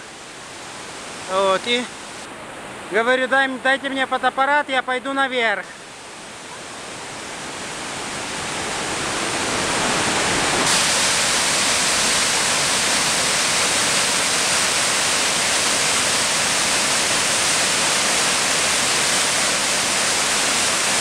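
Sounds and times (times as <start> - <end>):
waterfall rushing into pool: 0.0 - 4.7, 5.3 - 21.0.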